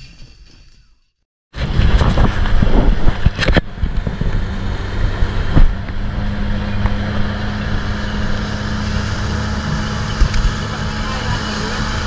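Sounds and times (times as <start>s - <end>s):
boat engine running: 1.6s - 12.0s.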